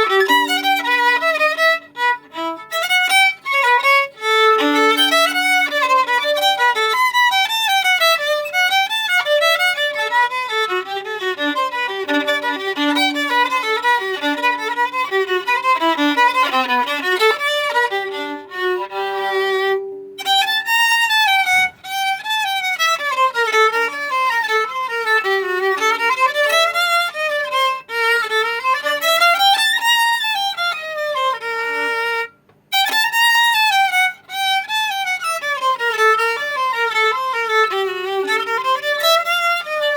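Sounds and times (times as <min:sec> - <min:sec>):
solo violin playing: 0:00.0 - 0:39.9.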